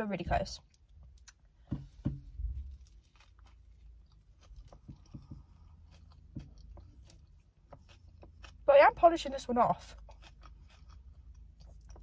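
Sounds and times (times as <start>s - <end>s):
mouth clicks and chewing: 0.6s - 1.6s, 2.6s - 12.0s.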